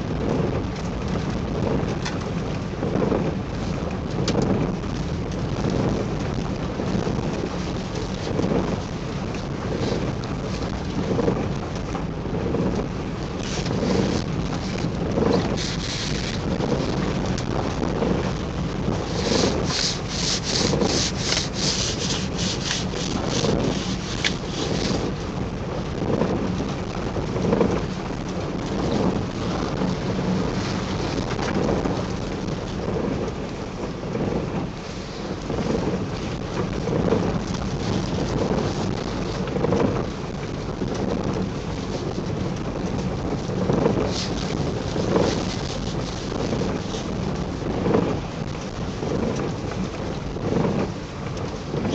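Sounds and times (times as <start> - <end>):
car driving rumble: 0.0 - 51.9
plastic rain suit rustling: 5.4 - 11.6, 12.5 - 25.4, 26.2 - 33.3, 34.3 - 50.9.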